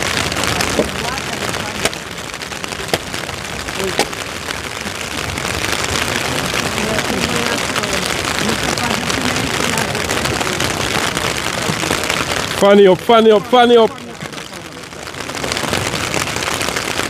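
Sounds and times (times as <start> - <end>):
faint voices: 0.0 - 17.0
heavy rain falling: 0.0 - 17.0.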